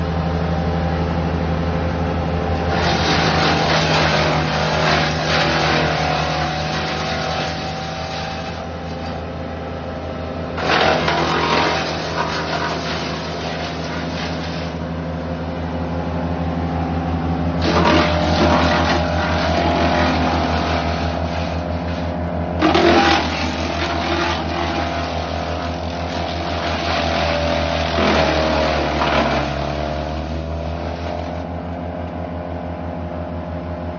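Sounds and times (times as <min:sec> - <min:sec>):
wood chipper engine running: 0:00.0 - 0:33.9.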